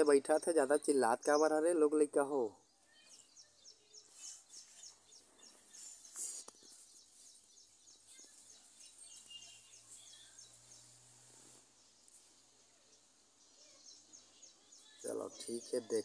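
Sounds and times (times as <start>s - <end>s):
faint high bird chirps: 2.4s - 16.0s.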